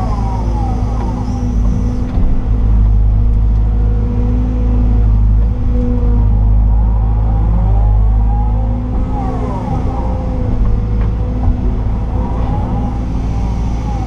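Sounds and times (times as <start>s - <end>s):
diesel engine low drone: 0.0s - 14.0s
hydraulic whine: 0.0s - 14.0s.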